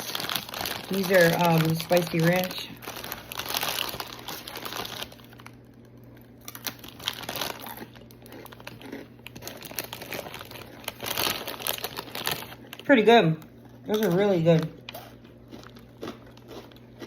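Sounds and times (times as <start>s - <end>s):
plastic chip bag crinkling: 0.0s - 17.0s.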